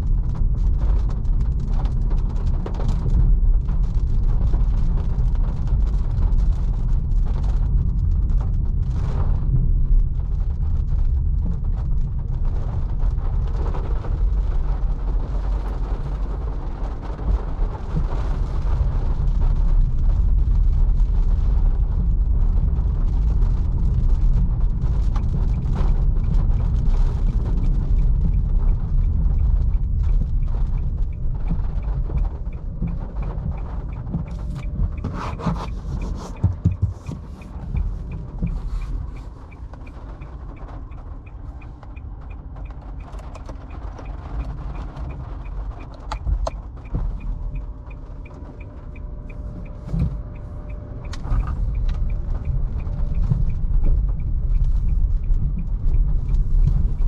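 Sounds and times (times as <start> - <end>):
rain and spray hiss: 0.0 - 57.0
tyres rumbling on wet road: 0.0 - 57.0.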